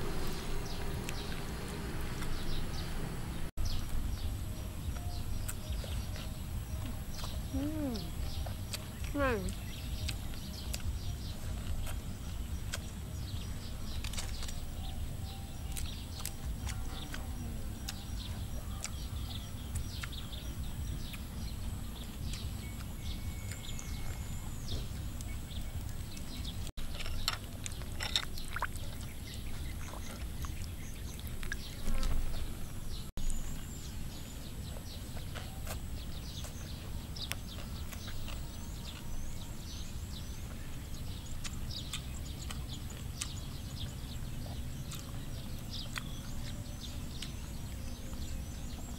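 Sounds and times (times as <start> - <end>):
birds chirping: 0.0 - 48.9
low rumble: 0.0 - 48.9.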